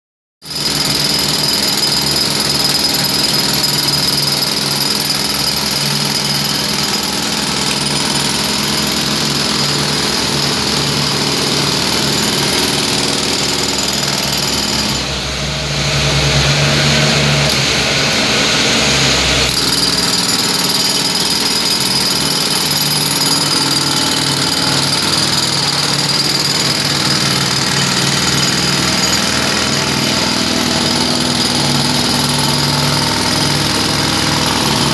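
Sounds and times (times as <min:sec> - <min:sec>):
jackhammer hammering asphalt: 0:00.4 - 0:34.9.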